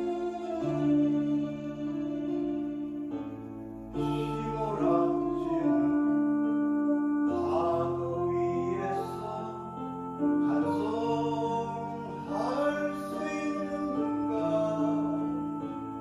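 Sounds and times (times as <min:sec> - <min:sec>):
slow instrumental music: 0:00.0 - 0:16.0.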